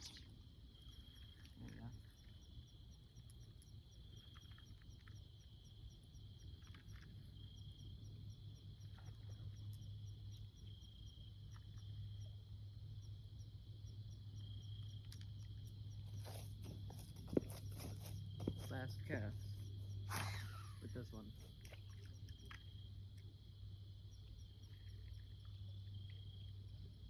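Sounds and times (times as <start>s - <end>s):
insect trilling: 0.0s - 12.3s, 13.0s - 26.9s.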